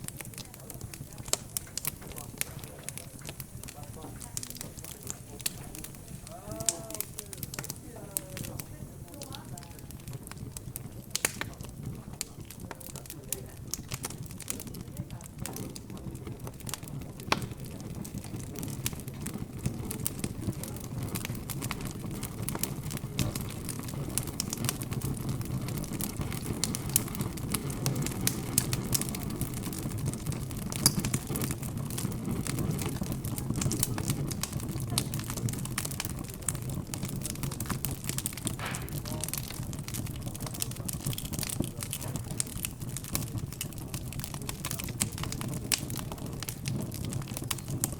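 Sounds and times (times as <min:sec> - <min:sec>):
background chatter: 0:00.0 - 0:47.9
fire crackling and popping: 0:00.0 - 0:47.9.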